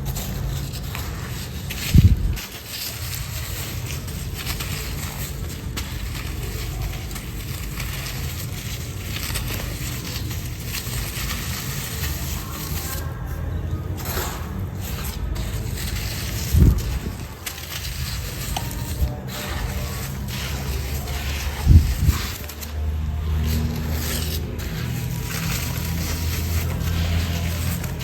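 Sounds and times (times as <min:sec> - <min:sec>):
sand-cement chunks crumbling: 0:00.0 - 0:28.0.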